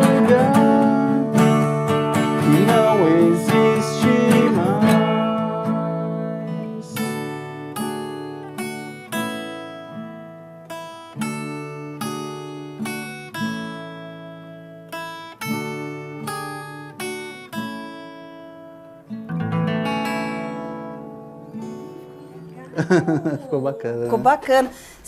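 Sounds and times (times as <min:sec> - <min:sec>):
acoustic guitar strumming chords: 0:00.0 - 0:22.8.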